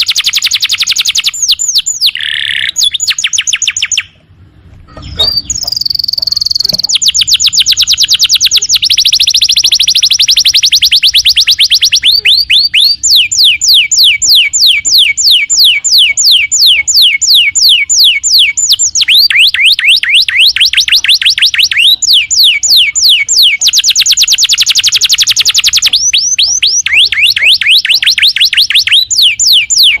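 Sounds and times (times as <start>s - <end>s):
canary singing: 0.0s - 4.2s, 4.8s - 30.0s.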